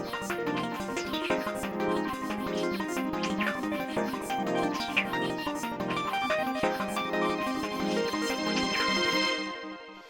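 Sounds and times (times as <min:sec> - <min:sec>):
instrumental plucked-string and keyboard music: 0:00.0 - 0:09.8.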